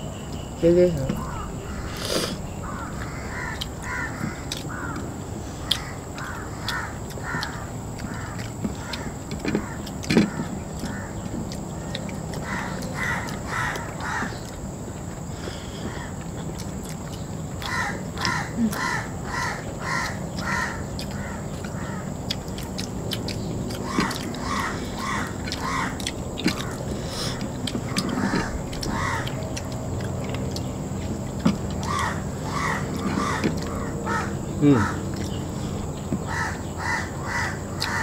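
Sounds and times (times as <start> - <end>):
bird calling: 0.0 - 38.0
steady low hum: 0.0 - 38.0.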